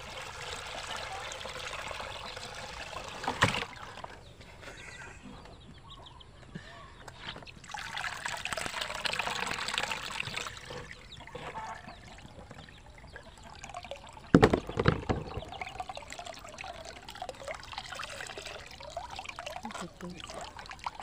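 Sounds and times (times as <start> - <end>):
liquid trickling through a strainer: 0.0 - 4.4, 7.5 - 21.0.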